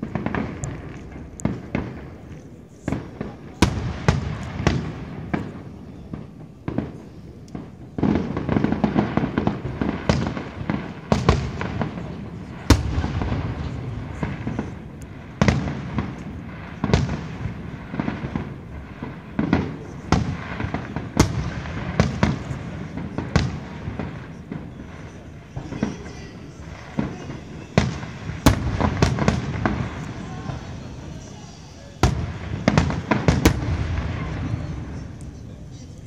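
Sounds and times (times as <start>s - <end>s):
fireworks bursting with bangs: 0.0s - 36.0s
rapid fireworks crackling: 0.0s - 36.0s.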